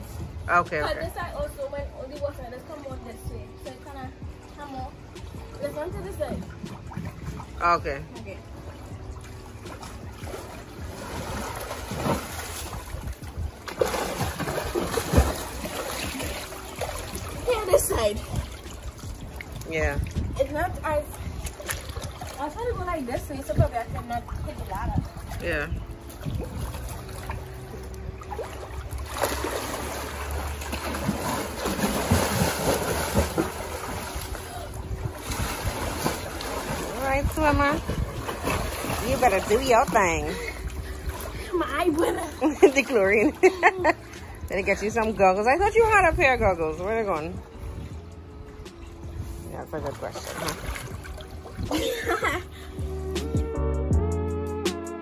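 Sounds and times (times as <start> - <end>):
water splashing from swimmer: 4.6 - 47.7, 49.3 - 52.4.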